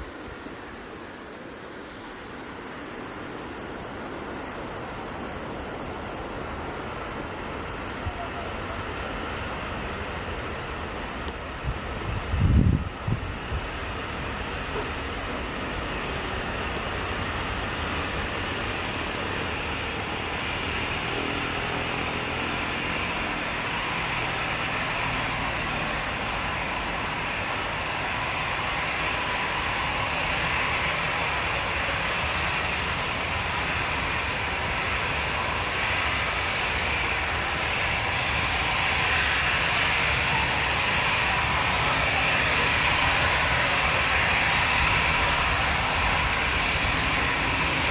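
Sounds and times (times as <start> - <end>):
aircraft engines running: 0.0 - 47.9
insects chirping: 0.0 - 47.9.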